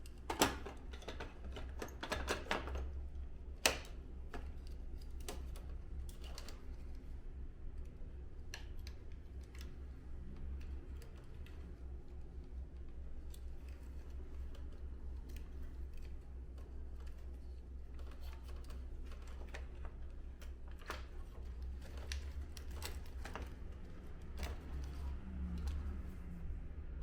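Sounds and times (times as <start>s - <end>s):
light clicks and taps of parts: 0.0s - 27.0s.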